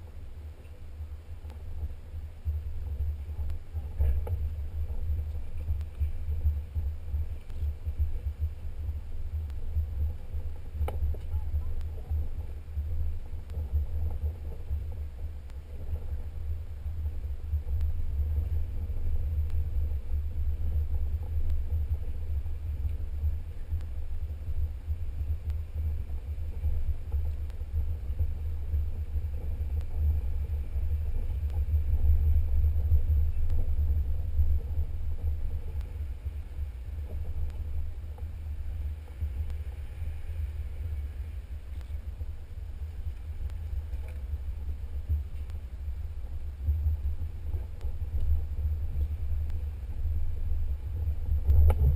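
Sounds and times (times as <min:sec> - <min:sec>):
vehicle rumble on dirt trail: 0:00.0 - 0:51.9.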